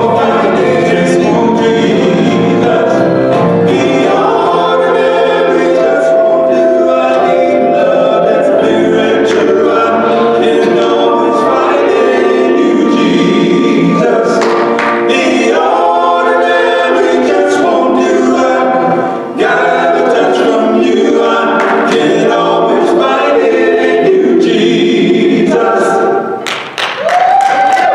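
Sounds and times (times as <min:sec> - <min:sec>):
male quartet singing a cappella: 0:00.0 - 0:26.4.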